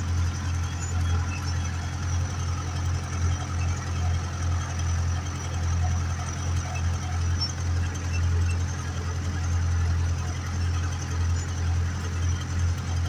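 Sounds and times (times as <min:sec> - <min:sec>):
tractor diesel engine humming: 0:00.0 - 0:13.0.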